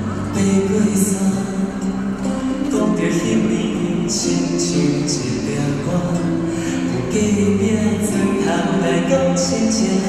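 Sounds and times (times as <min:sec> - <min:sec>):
acoustic guitars: 0:00.0 - 0:10.0
man singing folk ballad: 0:00.0 - 0:10.0.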